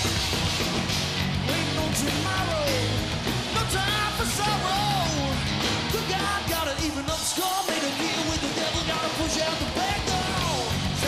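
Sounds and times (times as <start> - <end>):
heavy rock band playing: 0.0 - 11.0
person singing: 1.5 - 11.0.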